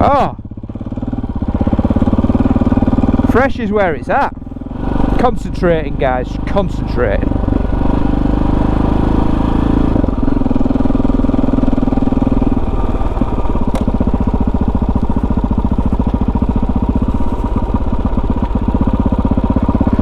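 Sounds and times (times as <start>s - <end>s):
motorcycle engine chugging: 0.0s - 20.0s.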